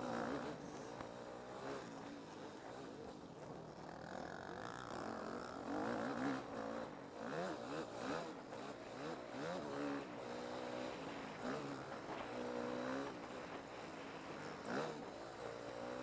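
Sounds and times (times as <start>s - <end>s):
motocross bike engine revving: 0.0s - 3.1s, 3.7s - 16.0s.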